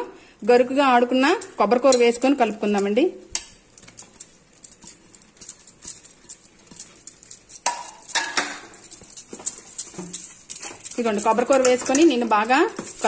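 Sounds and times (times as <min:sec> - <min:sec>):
spoon clinking and scraping on steel: 0:01.3 - 0:13.0
utensil clatter: 0:01.3 - 0:13.0.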